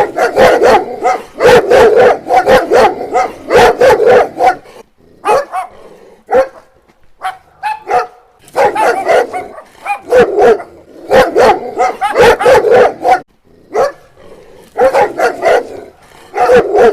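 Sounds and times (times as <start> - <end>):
dog barking: 0.0 - 14.1, 14.8 - 16.9.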